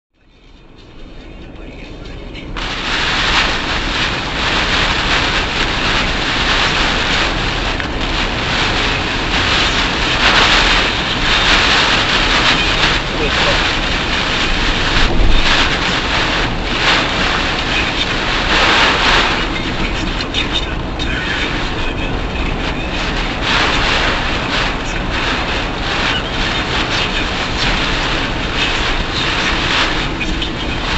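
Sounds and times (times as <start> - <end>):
rain and wind noise: 0.2 - 30.9
tyre hiss on wet road: 2.6 - 30.9.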